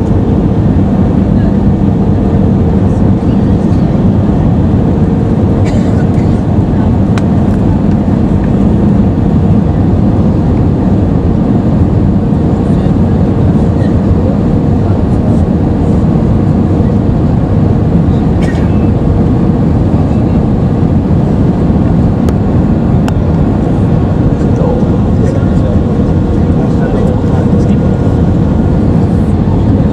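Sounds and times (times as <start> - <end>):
airplane cabin rumble: 0.0 - 29.9.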